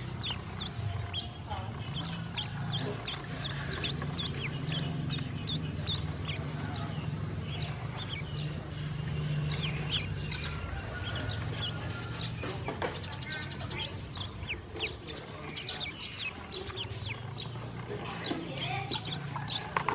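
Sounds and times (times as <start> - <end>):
ducklings peeping: 0.0 - 19.9
steady low hum: 0.0 - 19.9.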